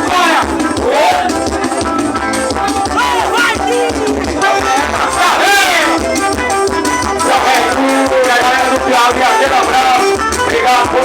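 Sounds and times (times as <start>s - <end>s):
drum beat: 0.0s - 11.0s
voices singing: 0.0s - 11.0s.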